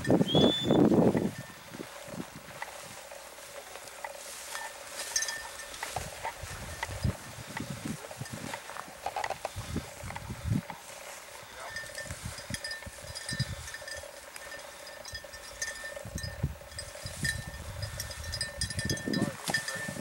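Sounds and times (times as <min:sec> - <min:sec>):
footsteps crunching through dry grass: 0:00.0 - 0:20.0.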